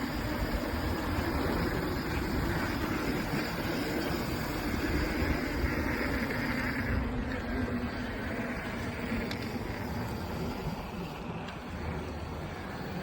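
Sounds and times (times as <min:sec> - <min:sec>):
bike tyres rolling on trail: 0:00.0 - 0:13.0
wind rumble on microphone: 0:00.0 - 0:13.0.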